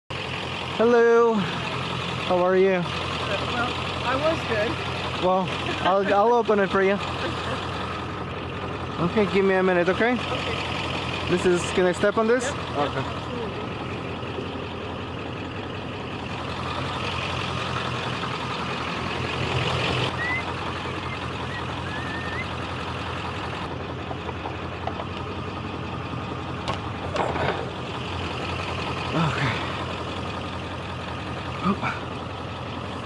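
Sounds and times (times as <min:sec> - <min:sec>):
vehicle engine idling: 0:00.1 - 0:33.0.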